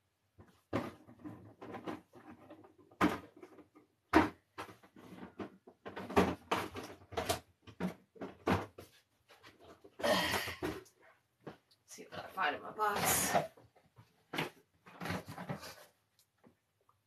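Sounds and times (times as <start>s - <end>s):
plastic bottles knocking and clattering: 0.2s - 16.6s.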